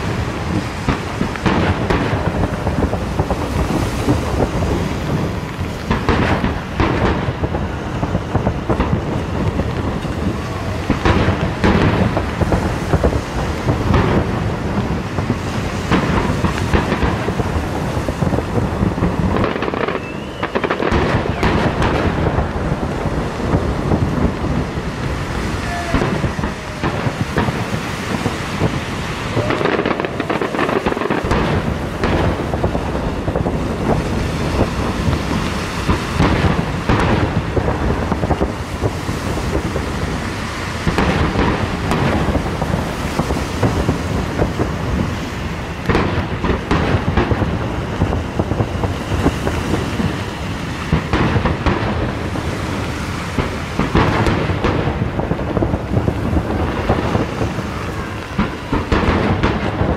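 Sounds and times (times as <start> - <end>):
firework shells bursting: 0.0 - 59.9.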